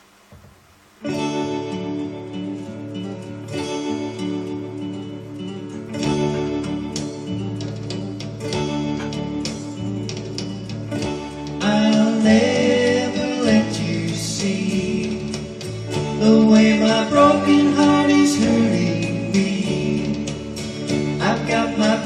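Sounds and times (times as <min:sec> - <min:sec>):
acoustic guitar strummed: 0:00.0 - 0:22.0.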